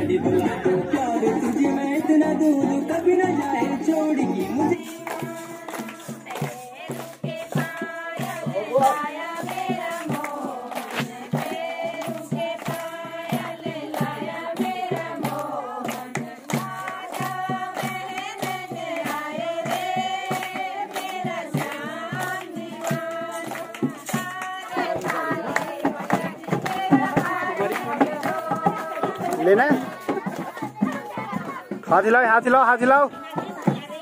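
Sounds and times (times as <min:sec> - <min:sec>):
women singing together: 0:00.0 - 0:32.0, 0:33.0 - 0:34.0
rhythmic hand-clapping: 0:00.0 - 0:34.0.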